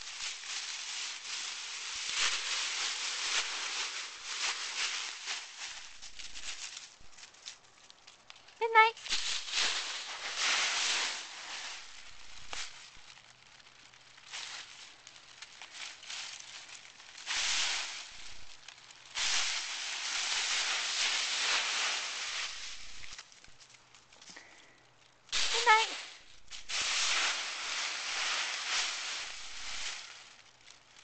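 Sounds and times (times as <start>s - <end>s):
dry leaves crunching and rustling: 0.0s - 31.0s.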